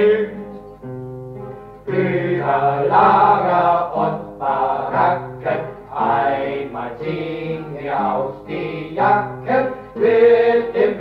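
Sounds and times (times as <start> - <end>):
men singing together: 0.0 - 0.4, 1.9 - 11.0.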